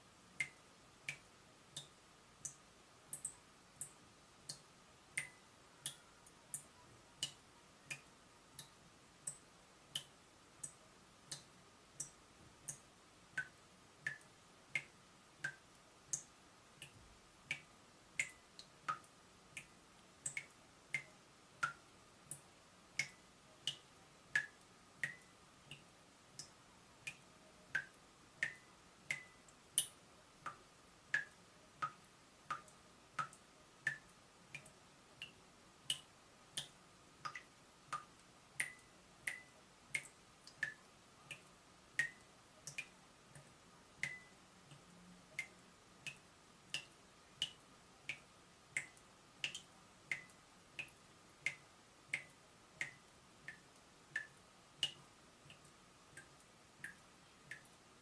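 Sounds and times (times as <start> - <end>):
faint steady hum: 0.0 - 58.0
water dripping from tap: 0.4 - 9.4, 10.0 - 57.8.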